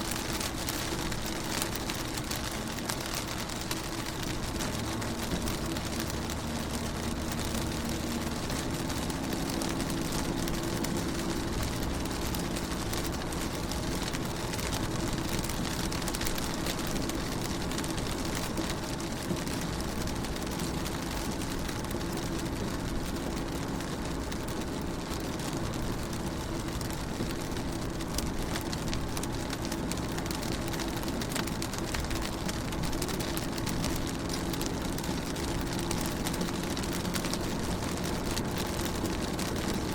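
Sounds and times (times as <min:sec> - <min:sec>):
rain pattering on car window: 0:00.0 - 0:39.9.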